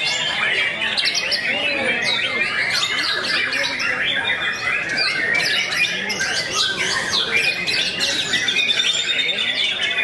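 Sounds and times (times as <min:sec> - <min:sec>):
birds singing whistled phrases: 0:00.0 - 0:10.0.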